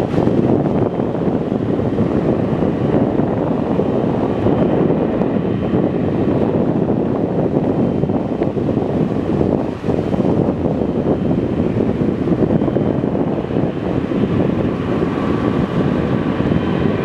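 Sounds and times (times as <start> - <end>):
distant jet airliner engine: 0.0 - 17.0
wind rumbling on microphone: 0.0 - 17.0.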